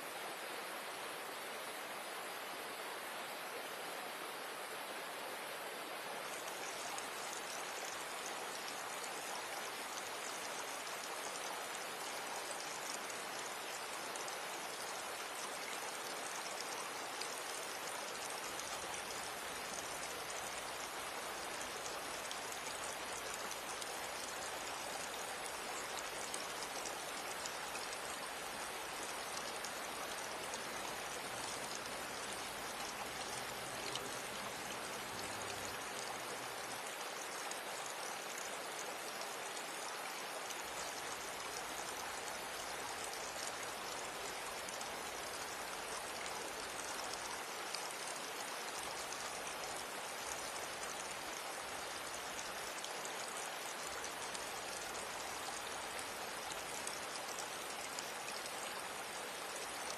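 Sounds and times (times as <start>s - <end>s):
stream splashing over rocks: 5.7s - 59.9s.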